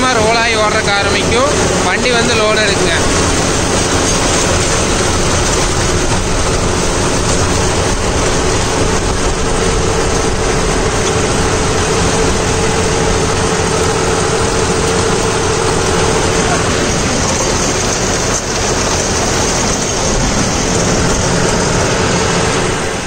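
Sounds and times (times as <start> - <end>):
rotary tiller cutting stalks: 0.0 - 23.0
steady hum: 0.0 - 23.0
tractor diesel engine running: 0.0 - 23.0.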